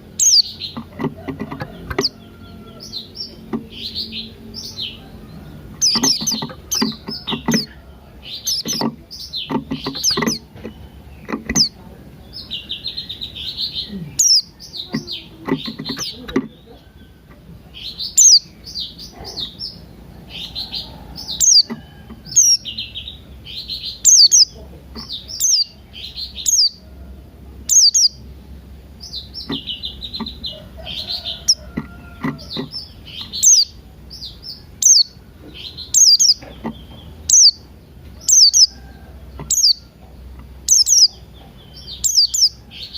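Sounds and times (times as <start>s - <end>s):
coarse bird calls: 0.0s - 26.9s, 29.0s - 42.9s
bird twittering song: 0.0s - 42.9s.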